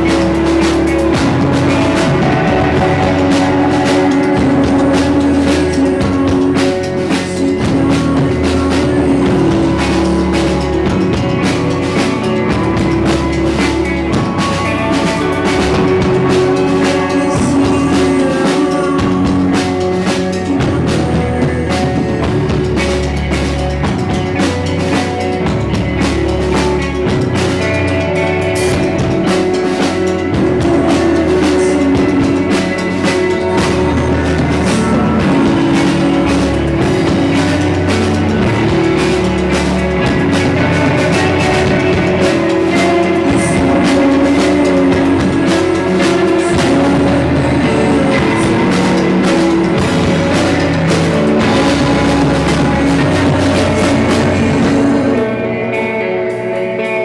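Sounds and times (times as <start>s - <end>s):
bass guitar: 0.0s - 57.0s
drum kit with cymbal hits: 0.0s - 57.0s
electric guitars: 0.0s - 57.0s.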